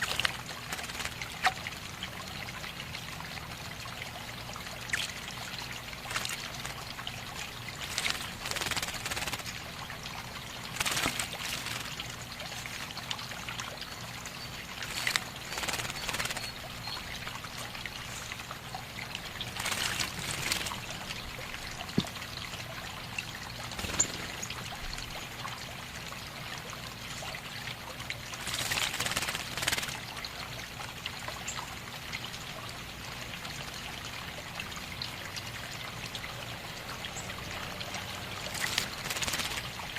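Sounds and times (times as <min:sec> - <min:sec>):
water splashing: 0:00.0 - 0:30.8, 0:34.3 - 0:39.9
water trickling: 0:00.0 - 0:39.9.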